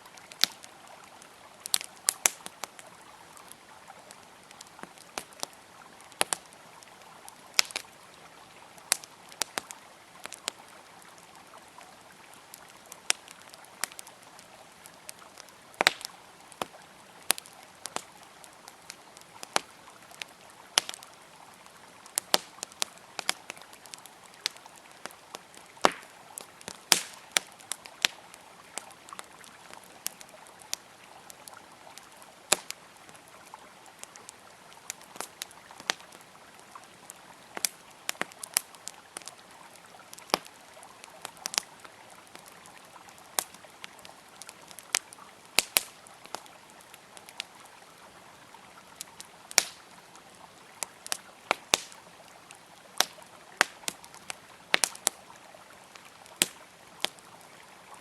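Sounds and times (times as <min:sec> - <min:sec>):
campfire crackling and popping: 0:00.0 - 0:58.0
river flowing: 0:00.0 - 0:58.0.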